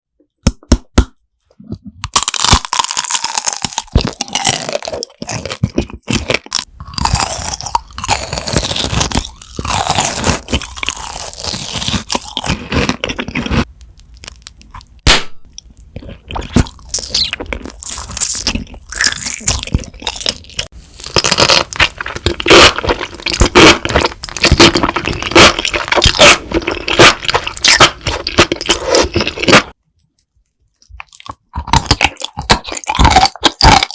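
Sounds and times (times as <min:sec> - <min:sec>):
crunchy food being chewed: 0:02.0 - 0:33.9.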